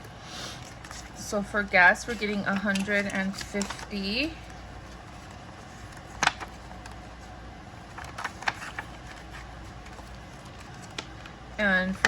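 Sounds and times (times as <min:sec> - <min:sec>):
low steady hum: 0:00.0 - 0:12.0
paper money rustling and clicking: 0:00.6 - 0:07.2, 0:07.8 - 0:11.4.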